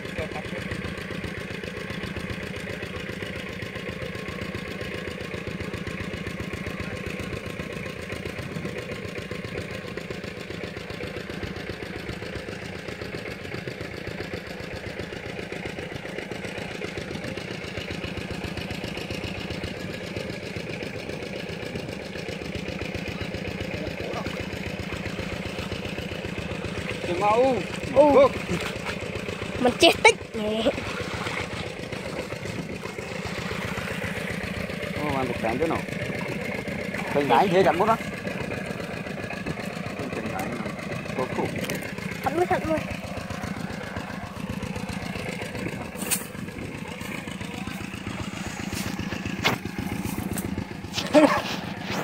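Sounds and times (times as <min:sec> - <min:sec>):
small engine running: 0:00.0 - 0:52.0.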